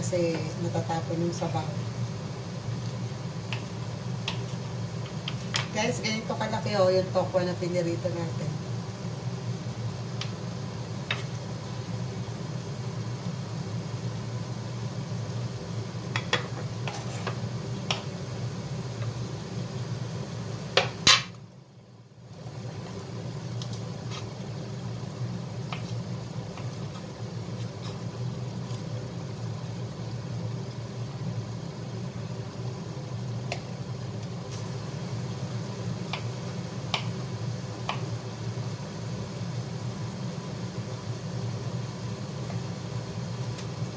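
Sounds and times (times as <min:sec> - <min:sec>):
steady low hum: 0:00.0 - 0:43.9
wok simmering: 0:00.0 - 0:43.9.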